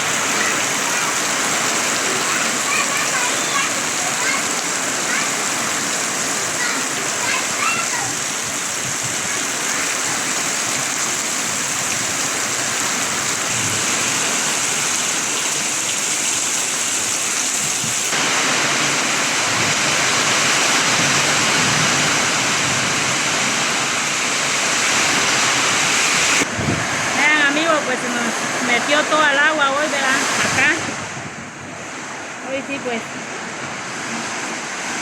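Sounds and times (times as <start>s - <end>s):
pouring rain: 0.0s - 35.0s
running water: 0.0s - 35.0s.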